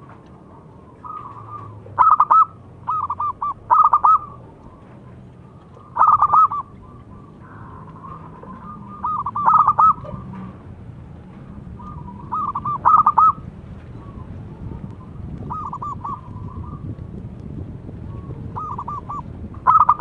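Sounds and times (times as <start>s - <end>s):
dove cooing: 0.0s - 10.6s, 11.7s - 16.9s, 18.0s - 20.0s.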